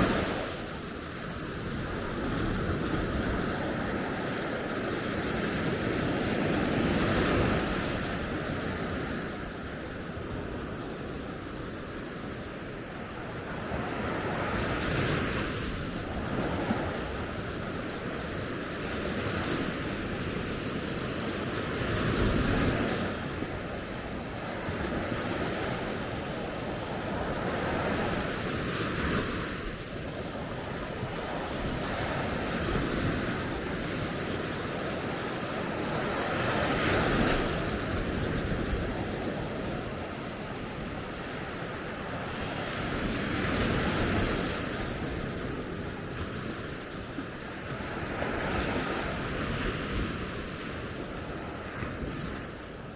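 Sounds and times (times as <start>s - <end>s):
sea waves breaking on a beach: 0.0s - 52.9s.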